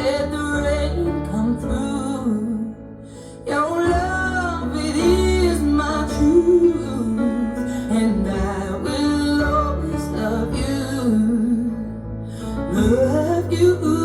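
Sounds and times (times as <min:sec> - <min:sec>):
person singing slow song: 0:00.0 - 0:14.0.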